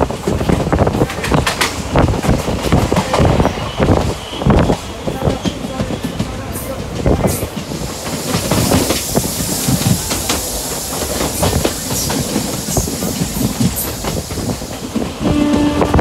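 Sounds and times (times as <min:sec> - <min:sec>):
train wheels clattering over joints: 0:00.0 - 0:16.0.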